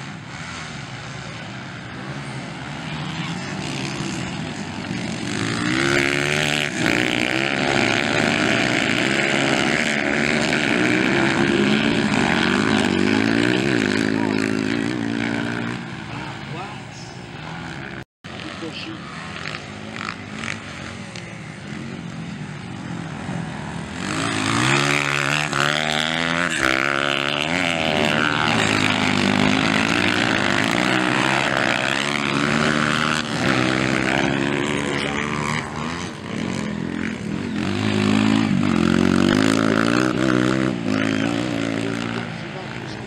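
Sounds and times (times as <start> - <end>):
dirt bike engines racing: 0.0 - 43.0
nearby dirt bike engine revving: 0.0 - 43.0.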